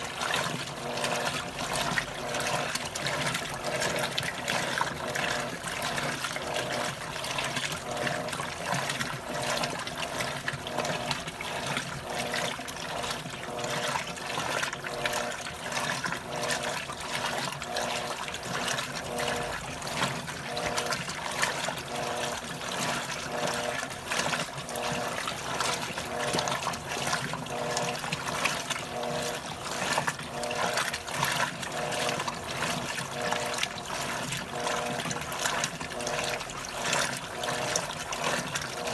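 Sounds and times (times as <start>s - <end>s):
washing machine motor humming: 0.0s - 38.9s
water sloshing: 0.0s - 38.9s.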